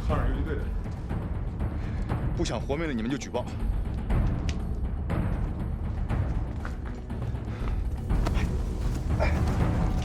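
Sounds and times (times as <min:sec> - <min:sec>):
tense drama music with drum pulse: 0:00.0 - 0:10.0.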